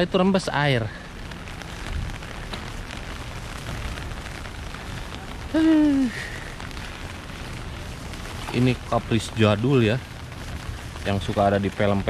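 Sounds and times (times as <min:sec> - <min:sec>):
rain drop ticks: 0:00.0 - 0:12.0
rain on an umbrella: 0:00.0 - 0:12.0.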